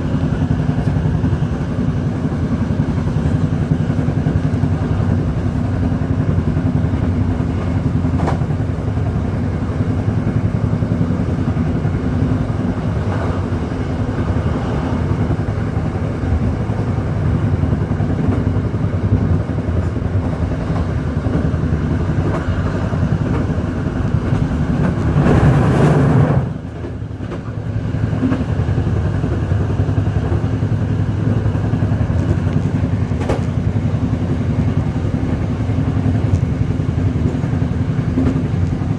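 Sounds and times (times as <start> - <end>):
vehicle engine drone: 0.0 - 38.9.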